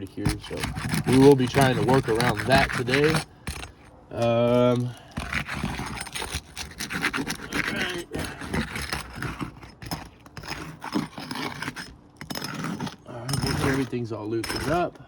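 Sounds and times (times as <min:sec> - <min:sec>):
pry tool scraping shingles: 0:00.0 - 0:15.0.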